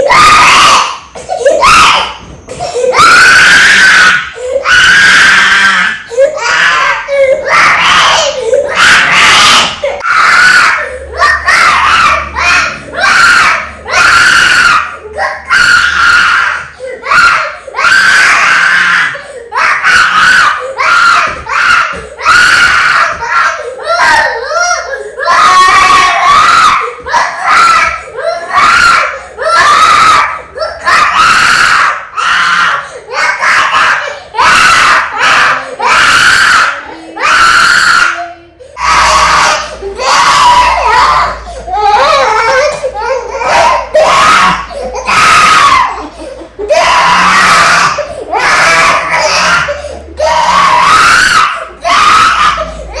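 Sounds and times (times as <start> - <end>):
baby crying: 0.0 - 53.0.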